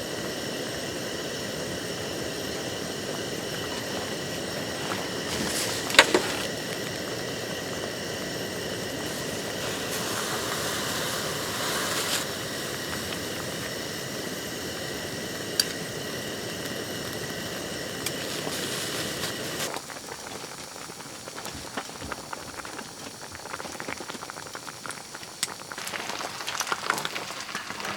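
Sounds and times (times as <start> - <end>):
food bubbling in a pot: 0.0 - 27.9.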